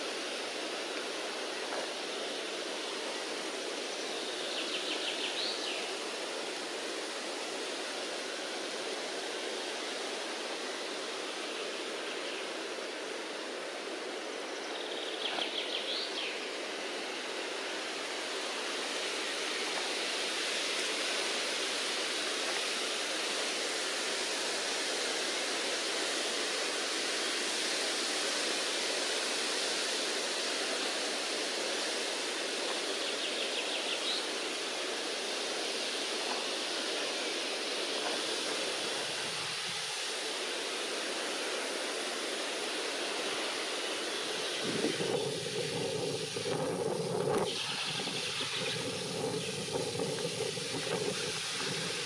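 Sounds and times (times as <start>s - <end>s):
running water rushing: 0.0s - 52.0s.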